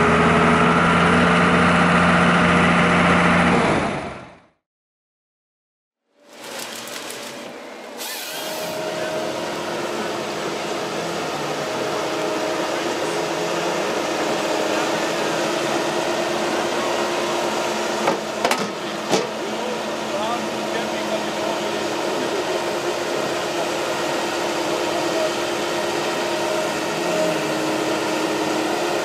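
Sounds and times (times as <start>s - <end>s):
heavy machine running: 0.0s - 4.5s, 6.2s - 29.0s.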